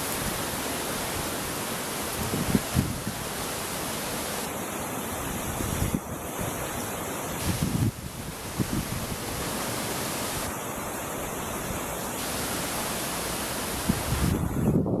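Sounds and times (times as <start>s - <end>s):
wind blowing against microphone: 0.0s - 15.0s.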